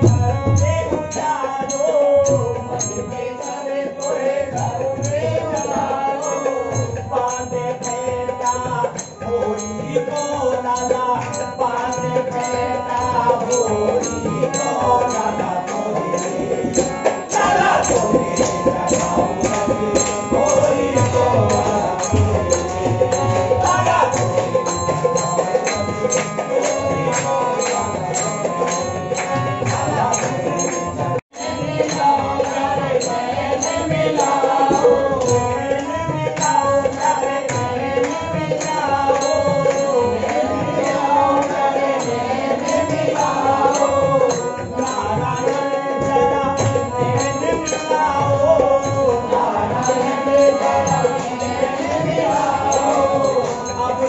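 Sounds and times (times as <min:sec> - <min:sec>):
group singing: 0:00.0 - 0:54.0
hand percussion strokes: 0:00.0 - 0:54.0
harmonium: 0:00.0 - 0:54.0
rhythmic clapping: 0:03.0 - 0:54.0.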